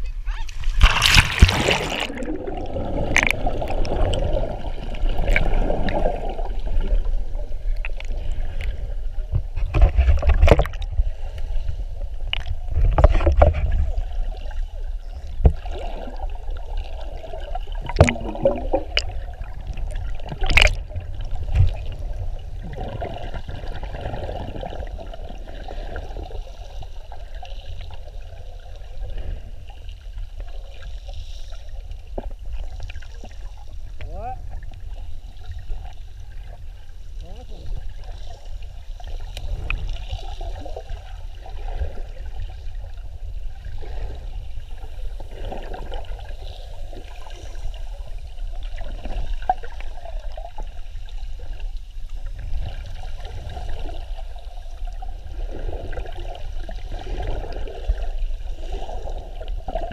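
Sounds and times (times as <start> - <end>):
underwater water rushing: 0.0 - 59.9.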